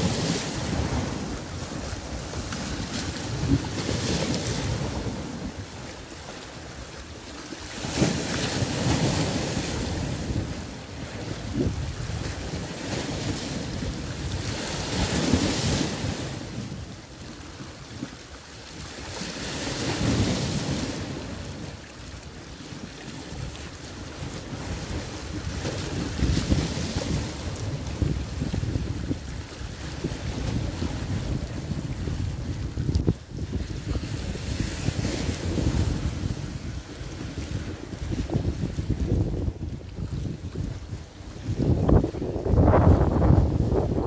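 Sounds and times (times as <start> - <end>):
waves lapping against icy shore: 0.0 - 44.0.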